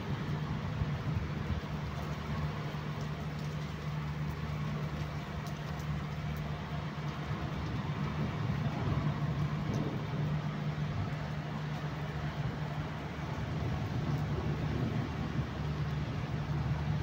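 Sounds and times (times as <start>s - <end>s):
low machine hum: 0.0s - 17.0s
steady rain falling: 0.0s - 17.0s.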